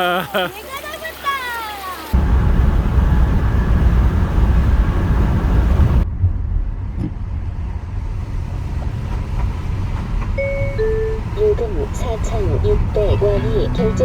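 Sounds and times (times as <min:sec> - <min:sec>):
car cabin road rumble: 0:02.2 - 0:14.0.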